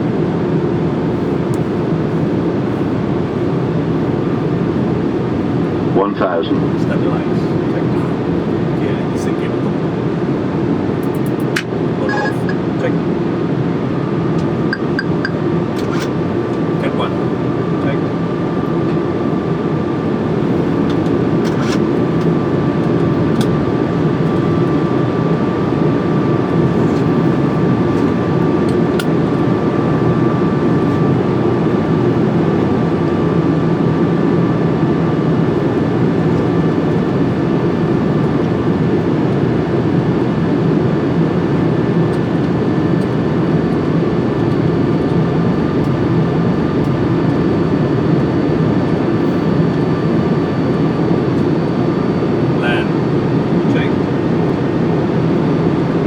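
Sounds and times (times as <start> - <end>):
faint steady whine: 0.2 - 56.0.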